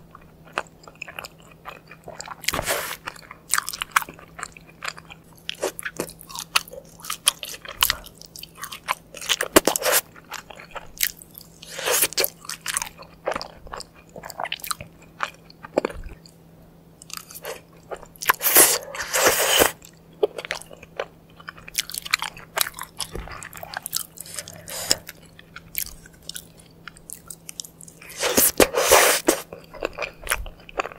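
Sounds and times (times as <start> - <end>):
crunchy food chewing: 0.0 - 16.4, 17.0 - 30.9
faint low hum: 0.0 - 30.9.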